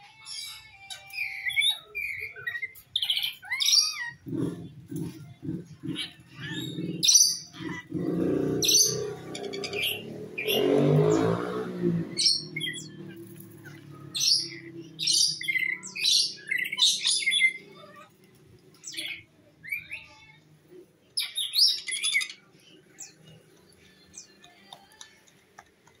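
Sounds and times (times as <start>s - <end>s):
parrots screeching: 0.2s - 18.2s, 18.8s - 20.3s, 21.2s - 22.4s.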